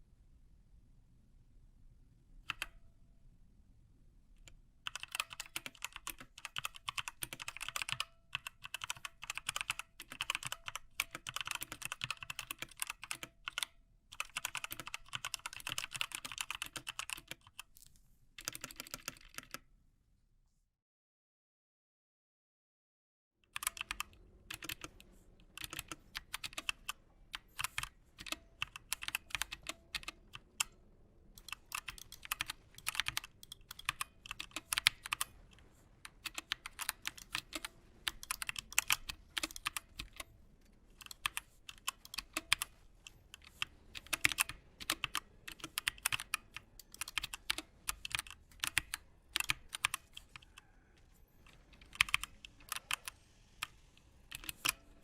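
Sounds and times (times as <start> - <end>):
mechanical keyboard typing: 2.4 - 2.8, 4.4 - 17.8, 18.4 - 19.6, 23.5 - 50.8, 51.4 - 55.0.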